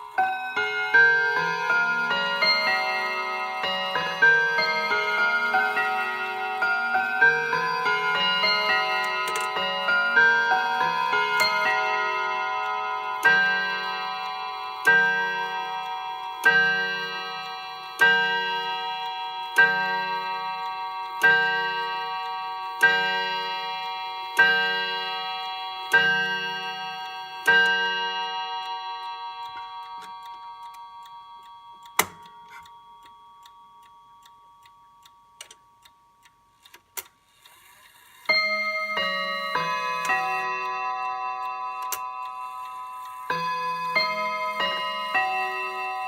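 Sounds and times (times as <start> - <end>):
clock chime strikes: 0.0 - 34.6, 37.9 - 46.0
clock ticking: 0.0 - 46.0.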